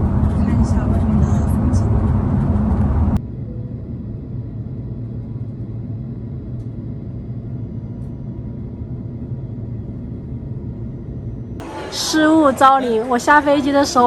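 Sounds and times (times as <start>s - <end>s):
airliner cabin rumble: 0.0s - 11.9s.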